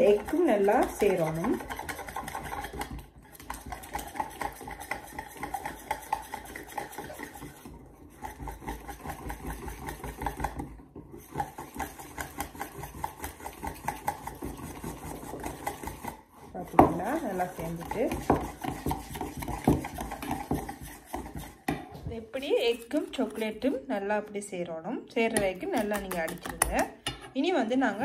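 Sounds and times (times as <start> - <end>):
utensil scraping metal bowl: 0.0 - 28.0.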